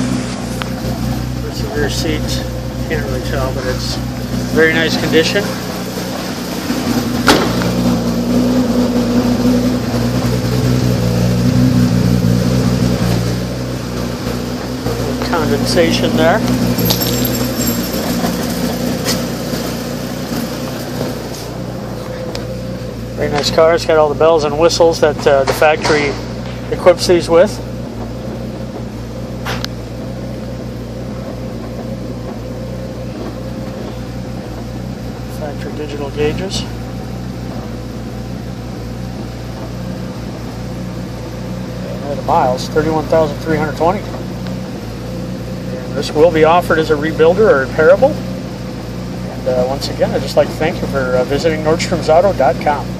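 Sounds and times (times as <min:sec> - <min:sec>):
car engine idling roughly: 0:00.0 - 0:52.9.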